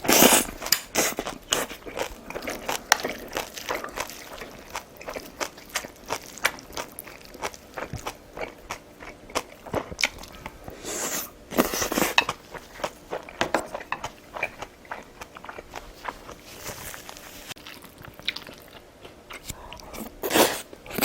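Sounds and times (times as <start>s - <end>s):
chewing and biting food: 0.0s - 21.0s.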